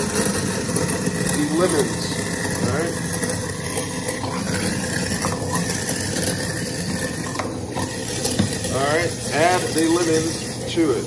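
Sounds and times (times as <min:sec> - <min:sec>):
garbage disposal running: 0:00.0 - 0:11.0
tap water pouring: 0:00.0 - 0:11.0.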